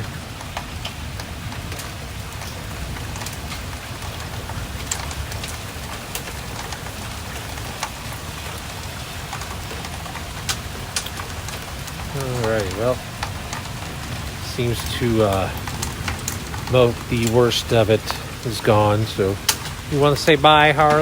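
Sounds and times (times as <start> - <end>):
hailstones hitting: 0.0 - 21.0
steady rain falling: 0.0 - 21.0.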